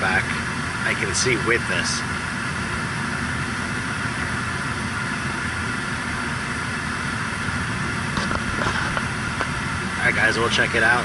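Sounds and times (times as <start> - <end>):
gas heater rumble and hiss: 0.0 - 11.0.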